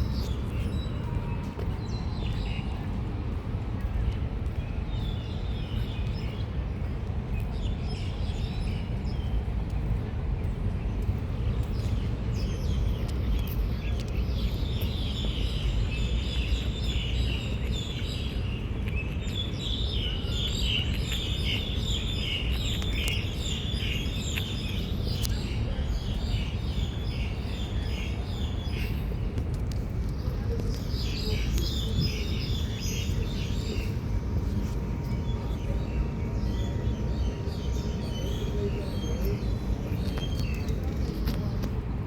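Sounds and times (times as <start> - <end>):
small birds chirping: 3.9 - 41.8.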